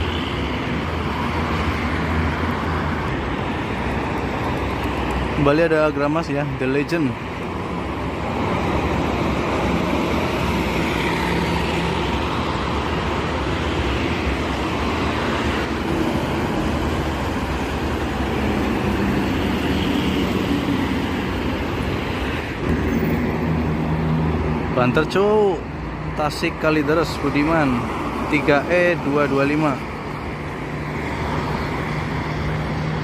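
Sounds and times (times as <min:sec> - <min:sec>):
fast traffic passing: 0:00.0 - 0:33.0.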